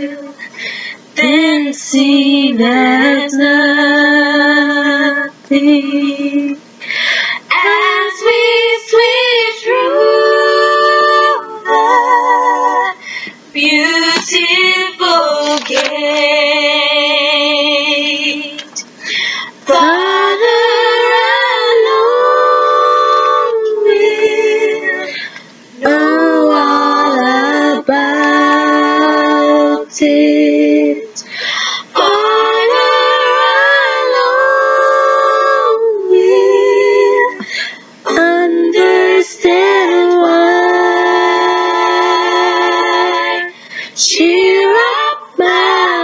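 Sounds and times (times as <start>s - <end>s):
woman singing a hymn: 0.0s - 6.7s, 7.5s - 18.8s, 19.6s - 46.0s.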